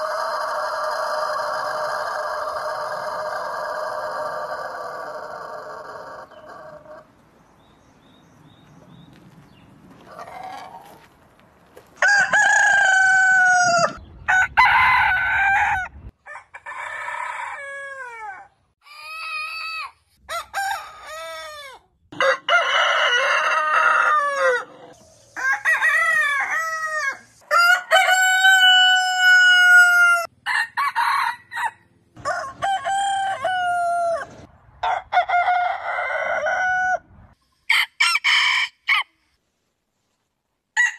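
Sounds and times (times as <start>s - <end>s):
roosters crowing: 0.0s - 7.1s, 10.0s - 11.1s, 12.0s - 39.1s.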